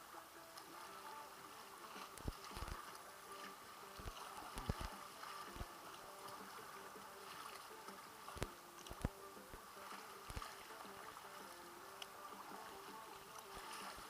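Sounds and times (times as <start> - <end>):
water lapping at kayak hull: 0.0 - 14.0.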